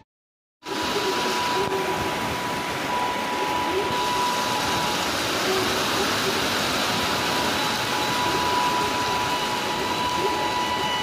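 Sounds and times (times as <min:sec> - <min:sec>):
rain hissing on platform: 0:00.6 - 0:11.0.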